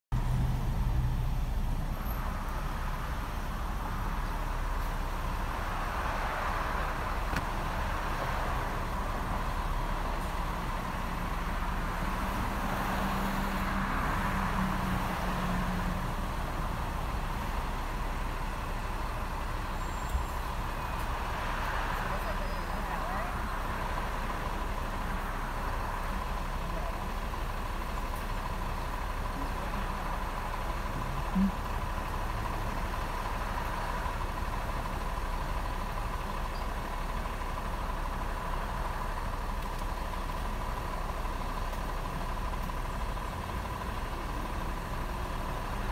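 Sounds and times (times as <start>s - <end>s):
car engine idling: 0.1s - 45.9s
road traffic outside: 0.1s - 45.9s.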